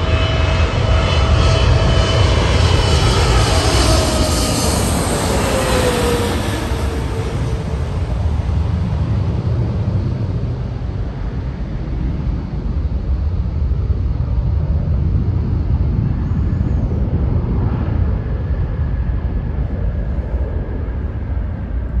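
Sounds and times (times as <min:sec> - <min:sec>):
jet engines passing overhead: 0:00.0 - 0:22.0.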